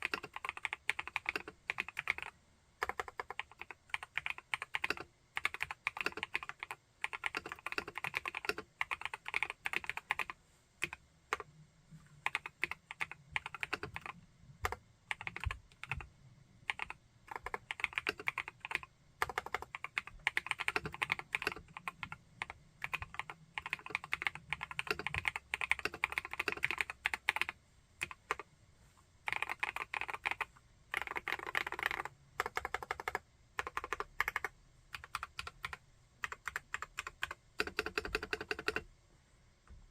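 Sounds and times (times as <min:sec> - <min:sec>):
mechanical keyboard typing: 0:00.0 - 0:11.5, 0:12.2 - 0:16.1, 0:16.7 - 0:28.5, 0:29.3 - 0:38.9.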